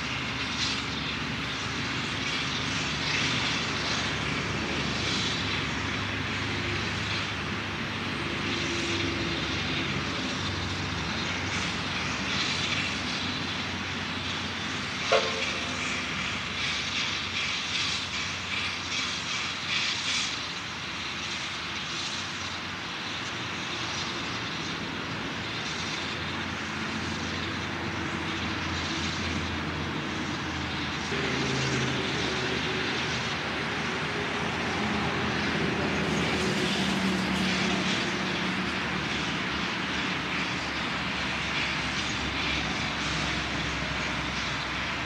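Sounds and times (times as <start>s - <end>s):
distant steam locomotive rumble: 0.0s - 45.0s
steam locomotive chuffs: 0.0s - 45.0s.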